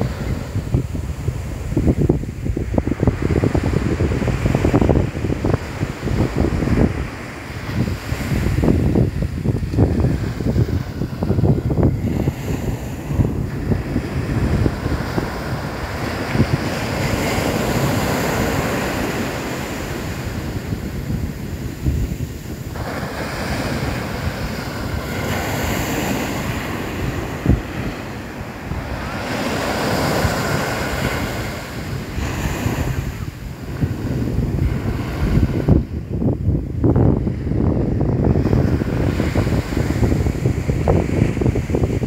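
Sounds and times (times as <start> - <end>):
waves breaking on beach: 0.0 - 42.0
wind buffeting microphone: 0.0 - 42.0.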